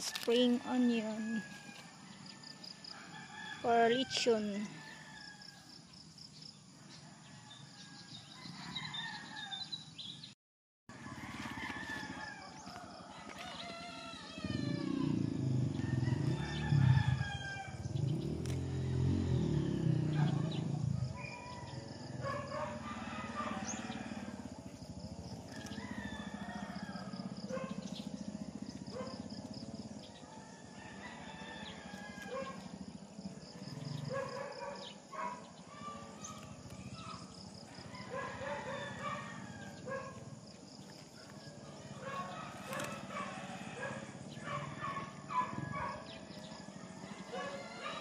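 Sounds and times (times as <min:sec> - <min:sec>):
roosters crowing: 0:00.0 - 0:05.8, 0:07.0 - 0:09.8, 0:10.9 - 0:48.0.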